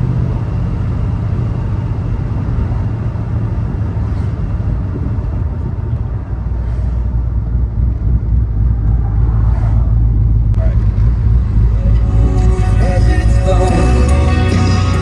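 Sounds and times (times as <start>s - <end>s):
car engine exhaust rumble: 0.0s - 15.0s.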